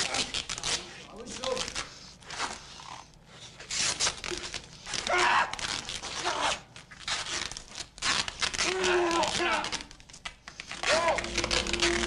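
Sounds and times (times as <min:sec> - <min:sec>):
adhesive tape pulled off roll: 0:00.0 - 0:12.0.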